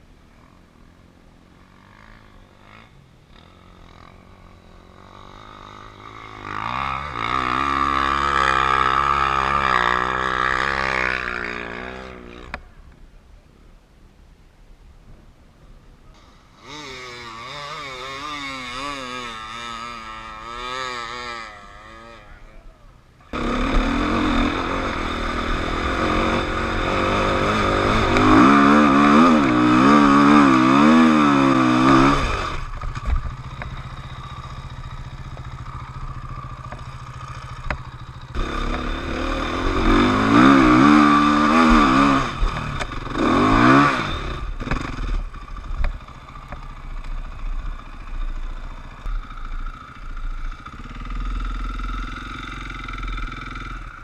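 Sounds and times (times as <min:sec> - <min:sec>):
dirt bike engine revving: 0:00.4 - 0:12.7, 0:16.2 - 0:54.0.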